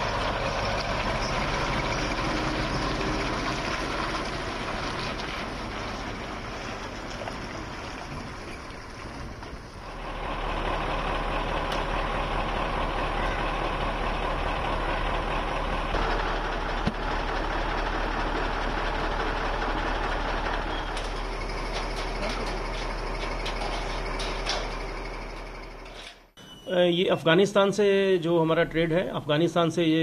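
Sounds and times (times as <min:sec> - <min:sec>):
truck engine droning: 0:00.0 - 0:26.3.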